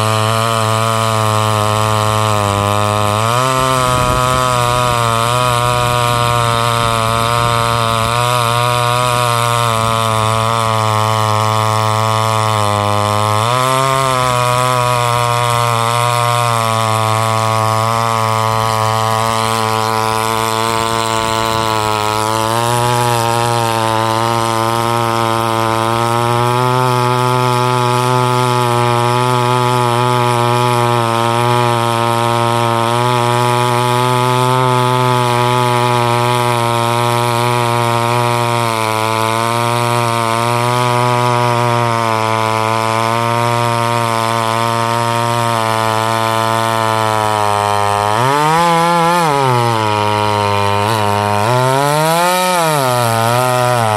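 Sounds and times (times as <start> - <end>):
chainsaw cutting through log: 0.0 - 53.9.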